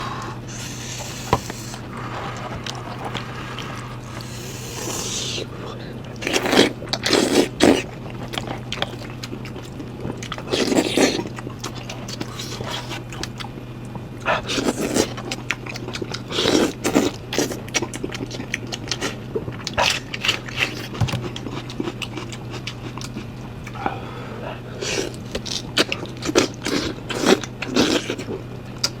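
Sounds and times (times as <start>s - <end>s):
steady low hum: 0.0s - 29.0s
person biting and chewing meat: 0.4s - 13.5s, 14.4s - 23.9s, 24.7s - 29.0s.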